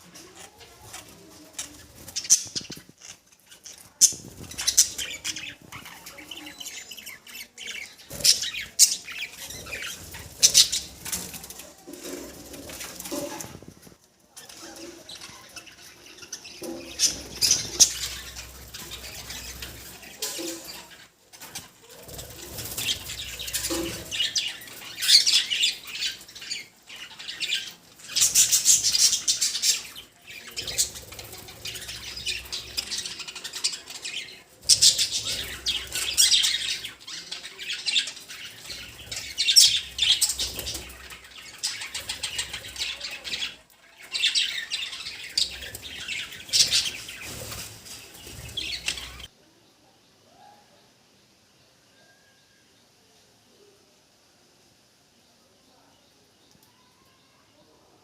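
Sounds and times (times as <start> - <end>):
budgerigars chattering and chirping: 0.3 - 13.6, 14.7 - 21.1, 22.0 - 49.3.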